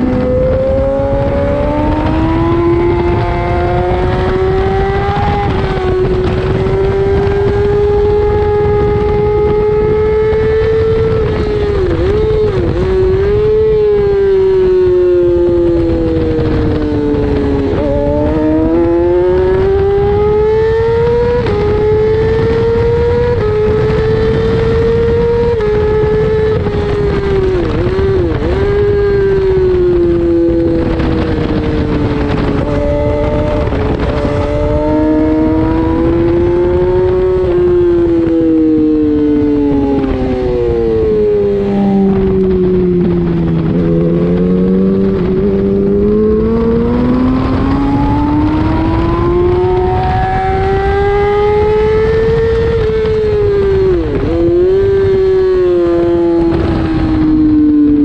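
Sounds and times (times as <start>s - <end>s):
racing motorcycle engine: 0.0s - 58.0s
wind rush: 0.0s - 58.0s.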